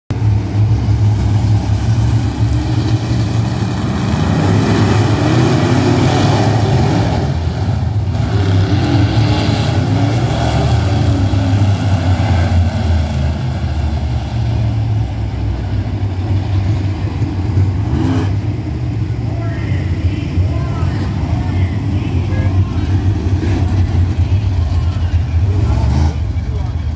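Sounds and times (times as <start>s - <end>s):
race car engines droning: 0.1s - 26.9s.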